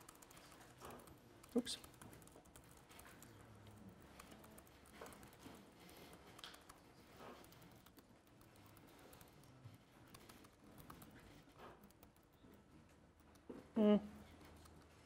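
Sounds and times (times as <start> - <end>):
typing on computer keyboard: 0.0 - 13.5.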